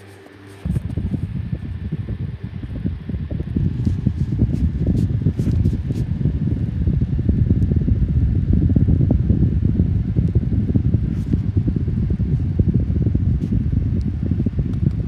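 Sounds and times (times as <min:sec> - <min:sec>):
box fan blowing air: 0:00.0 - 0:15.0.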